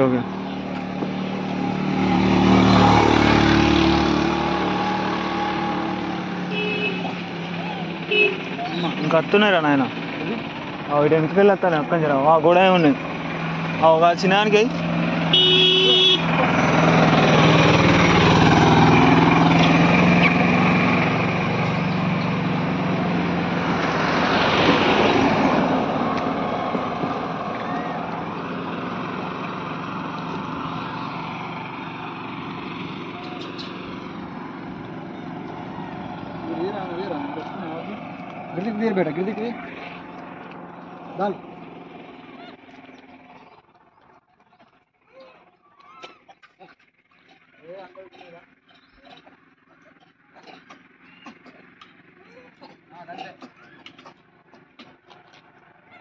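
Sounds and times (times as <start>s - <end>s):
vehicle passing on road: 0.0s - 45.0s, 46.9s - 56.0s
steady engine hum: 0.0s - 56.0s.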